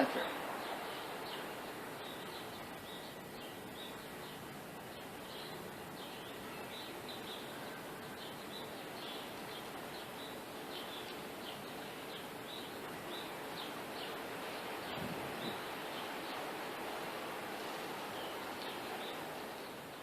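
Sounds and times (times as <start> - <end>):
small bird chirping: 0.0 - 16.5
outdoor background hiss: 0.0 - 20.0.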